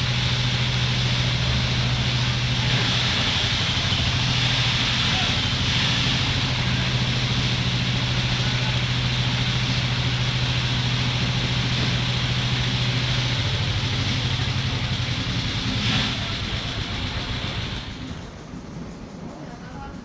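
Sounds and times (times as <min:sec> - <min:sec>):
engine humming: 0:00.0 - 0:19.4
hiss: 0:00.0 - 0:20.0.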